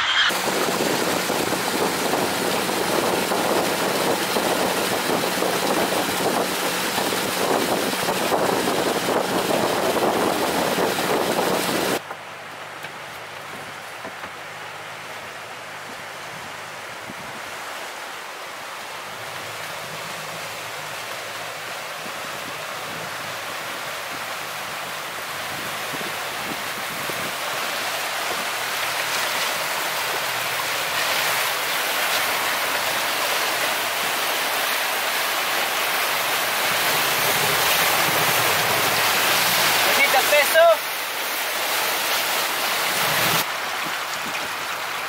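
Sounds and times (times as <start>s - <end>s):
rushing river water: 0.0s - 45.0s.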